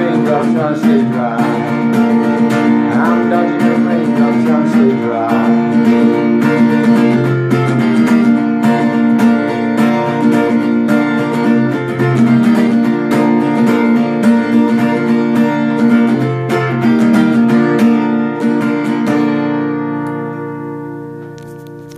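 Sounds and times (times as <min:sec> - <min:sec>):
acoustic guitar strumming: 0:00.0 - 0:21.9.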